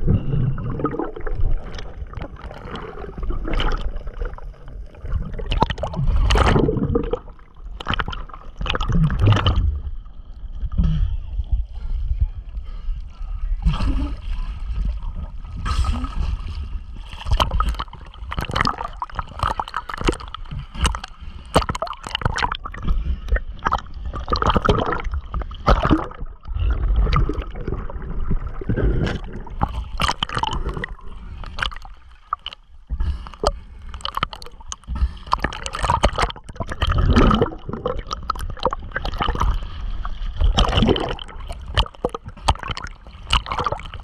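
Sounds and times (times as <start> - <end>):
water buffeting microphone: 0.0 - 44.0
water splashing and sloshing: 0.0 - 44.0.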